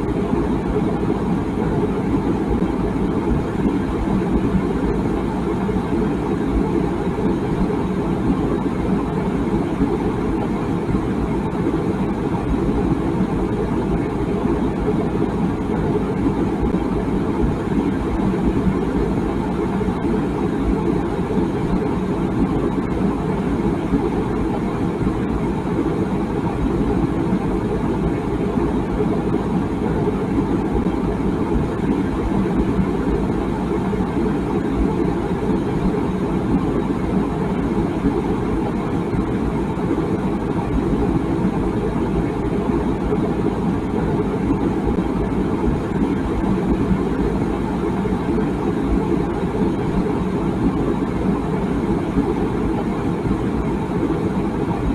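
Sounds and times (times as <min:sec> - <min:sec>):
water boiling in a kettle: 0:00.0 - 0:54.9.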